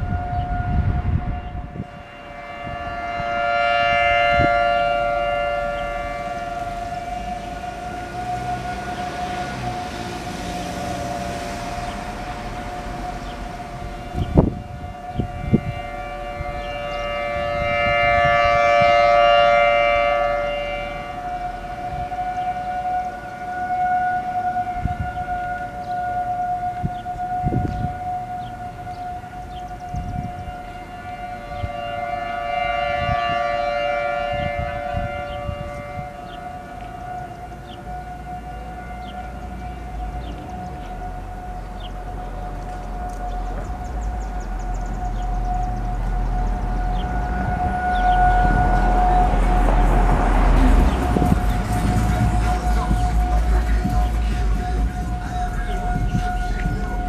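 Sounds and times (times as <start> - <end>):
siren two-note alert tone: 0.0 - 57.0.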